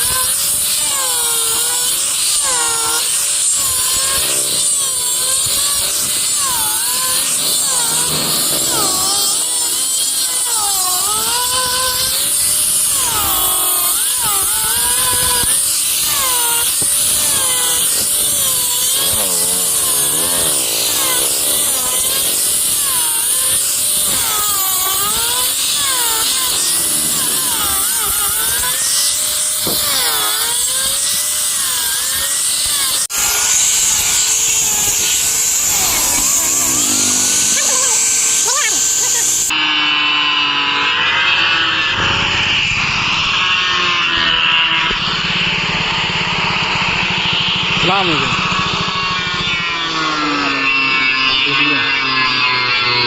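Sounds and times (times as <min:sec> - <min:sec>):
power tool cutting wood: 0:00.0 - 0:53.0.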